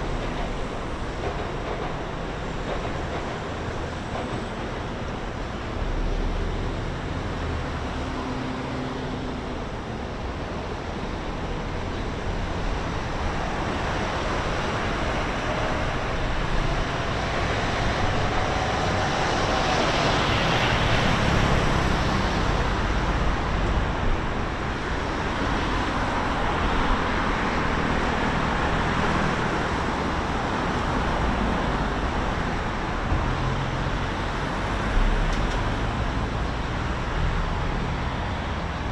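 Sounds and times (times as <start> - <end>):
road traffic: 0.0 - 38.9.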